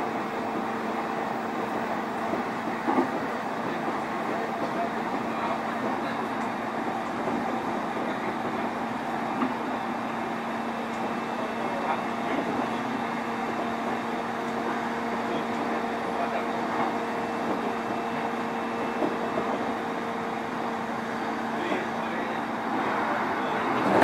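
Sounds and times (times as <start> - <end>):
train motor hum: 0.0 - 24.0
wheels rumbling on rail: 0.0 - 24.0.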